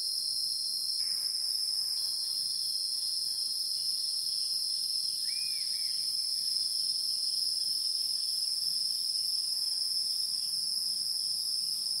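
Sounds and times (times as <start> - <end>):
insect chorus trilling: 0.7 - 12.0.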